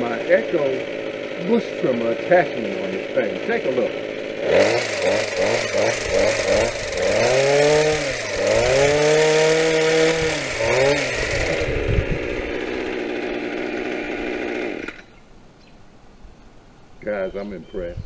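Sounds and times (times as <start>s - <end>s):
gas trimmer engine revving: 0.0s - 15.2s.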